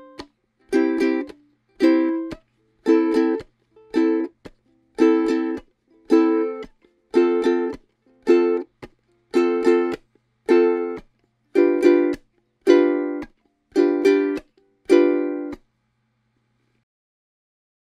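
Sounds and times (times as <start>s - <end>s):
ukulele strummed in chords: 0.0s - 15.6s.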